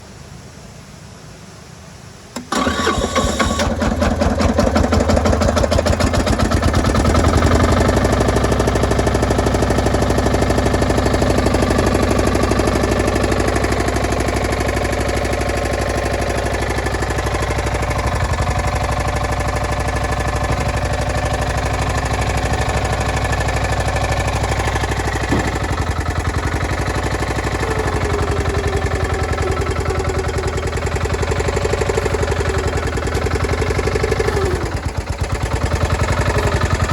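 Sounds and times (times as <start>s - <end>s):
diesel engine starting and idling: 2.4s - 36.9s.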